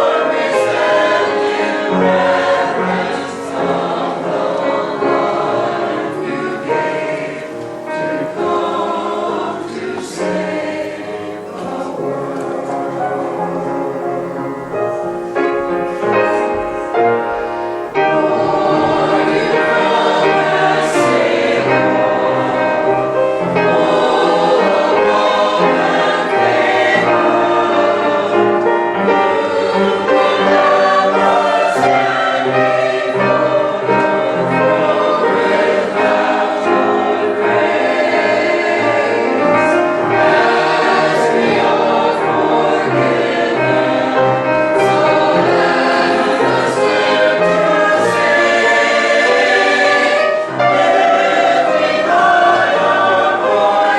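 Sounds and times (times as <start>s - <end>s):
choir singing with accompaniment: 0.0s - 53.9s.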